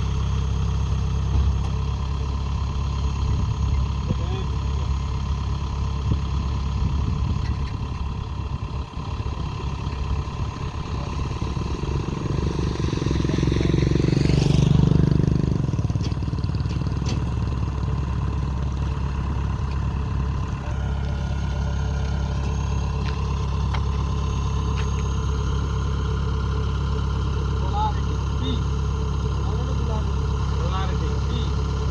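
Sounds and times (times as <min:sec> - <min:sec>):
combine harvester diesel engine: 0:00.0 - 0:31.9.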